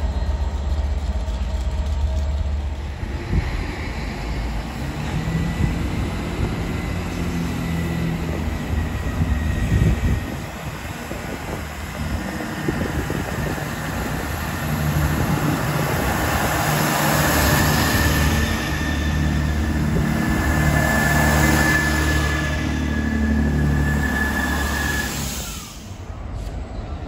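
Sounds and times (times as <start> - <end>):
diesel train engines droning: 0.0 - 27.0.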